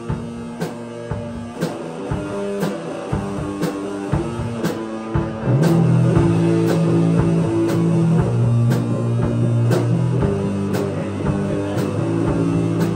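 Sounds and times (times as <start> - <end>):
rock band playing: 0.0 - 12.9.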